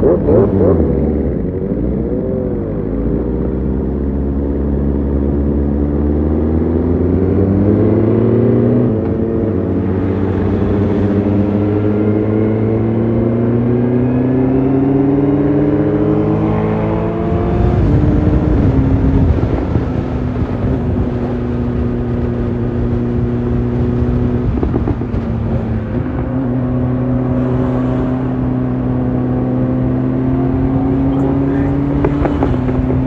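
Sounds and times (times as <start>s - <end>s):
motorcycle engine accelerating: 0.0s - 33.0s
rushing wind noise: 6.5s - 33.0s.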